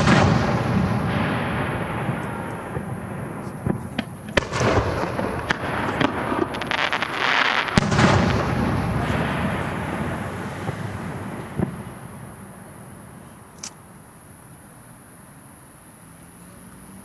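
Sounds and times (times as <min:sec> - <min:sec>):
firework hissing burst: 0:00.0 - 0:14.0
firework crackling: 0:00.0 - 0:14.1
firework bangs: 0:00.0 - 0:14.2.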